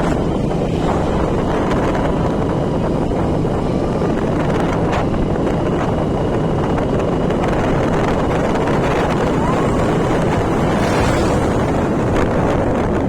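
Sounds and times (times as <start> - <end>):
moving vehicle: 0.0 - 13.0
wind rushing over microphone: 0.0 - 13.0.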